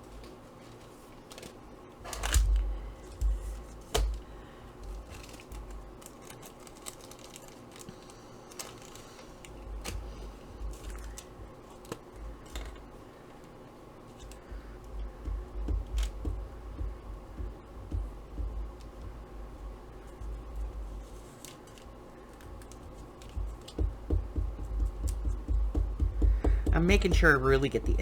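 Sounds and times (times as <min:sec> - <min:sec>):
paper taps and rustles: 0:00.1 - 0:13.6, 0:14.2 - 0:28.0.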